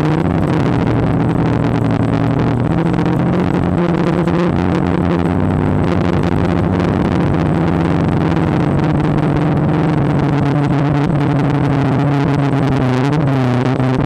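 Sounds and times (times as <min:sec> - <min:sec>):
drone propellers humming: 0:00.0 - 0:14.0.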